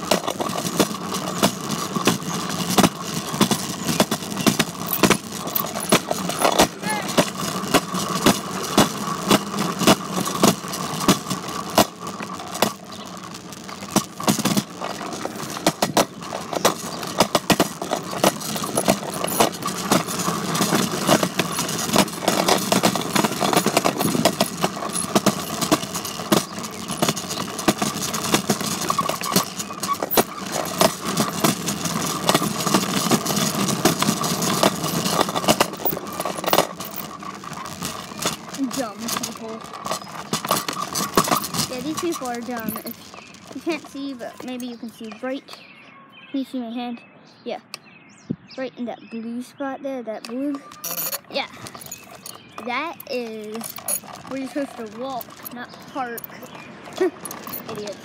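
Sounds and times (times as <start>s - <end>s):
bike rattling and clattering: 0.0s - 46.3s, 47.6s - 58.0s.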